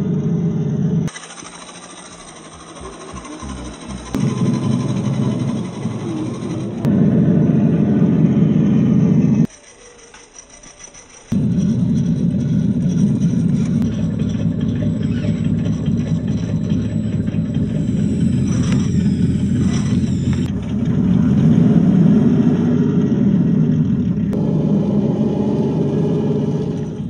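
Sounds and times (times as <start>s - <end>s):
toy truck engine rumble: 0.0s - 27.0s.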